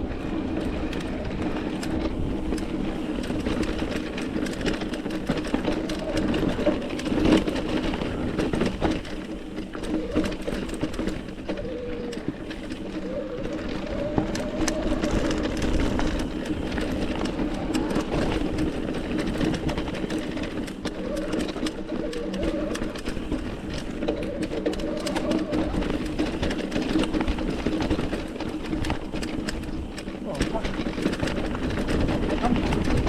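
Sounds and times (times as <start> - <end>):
bike clicks and rattles: 0.0 - 33.0
bike mechanical whir: 0.0 - 33.0.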